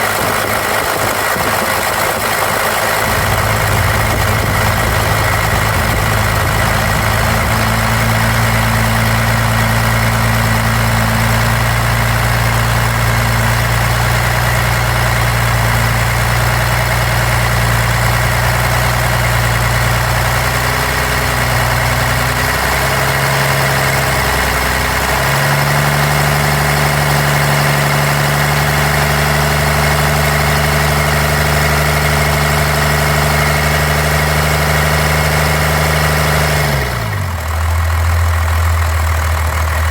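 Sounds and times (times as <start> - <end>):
diesel engine idling with misfire: 0.0 - 39.9.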